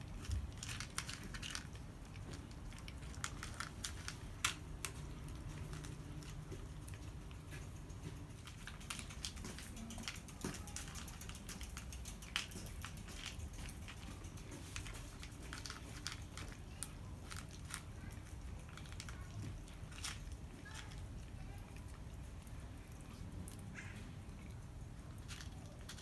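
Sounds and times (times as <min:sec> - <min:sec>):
cats chewing crunchy food: 0:00.0 - 0:26.0.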